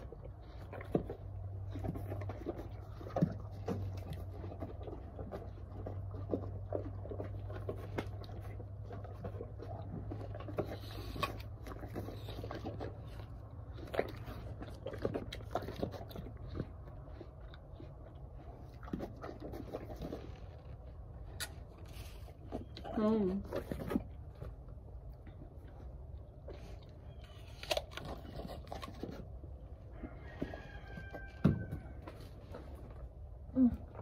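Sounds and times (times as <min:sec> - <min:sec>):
chewing apples crunching: 0:00.0 - 0:34.0.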